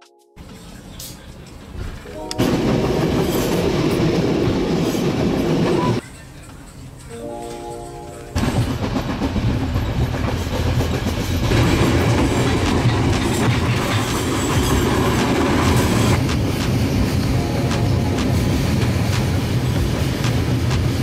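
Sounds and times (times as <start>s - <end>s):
train wheels rumbling and rattling: 2.6s - 7.1s, 8.4s - 21.0s.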